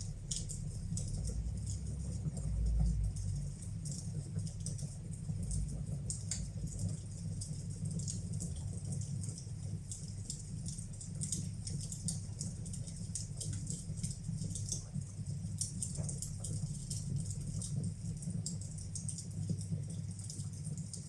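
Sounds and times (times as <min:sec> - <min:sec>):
fire crackles and pops: 0:00.0 - 0:21.0
low rumble of fire: 0:00.0 - 0:21.0.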